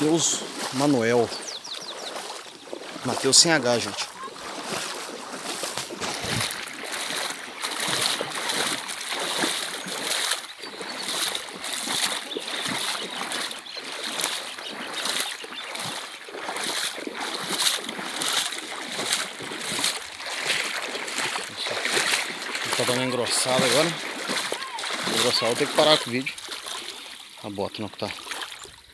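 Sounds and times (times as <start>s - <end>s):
boots wading through water: 0.0s - 28.9s.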